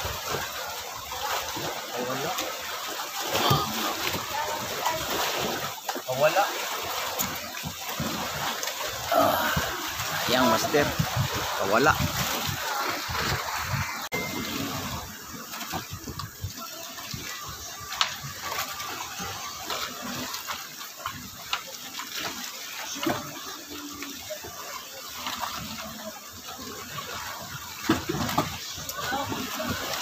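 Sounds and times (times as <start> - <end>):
water slapping against boat hull: 0.0 - 24.3, 25.0 - 30.0.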